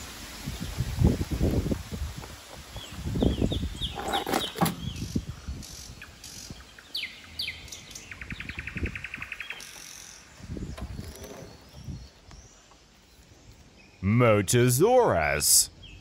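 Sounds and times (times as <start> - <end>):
small birds chirping: 2.3 - 16.0.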